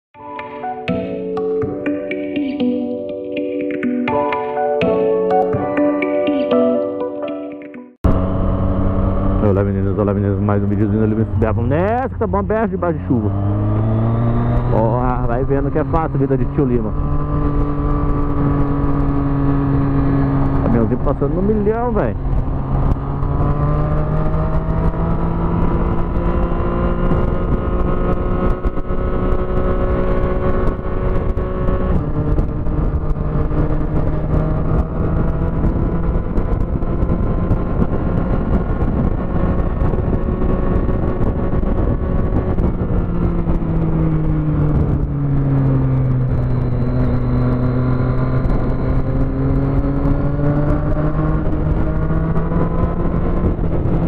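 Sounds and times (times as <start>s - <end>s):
motorcycle engine cruising: 8.0s - 54.0s.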